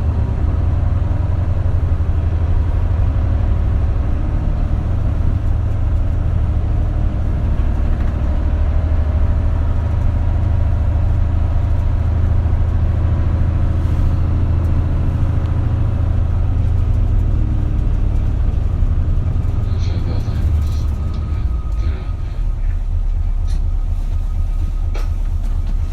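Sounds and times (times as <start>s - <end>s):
bus engine drone: 0.0s - 25.9s
road and cabin noise: 0.0s - 25.9s.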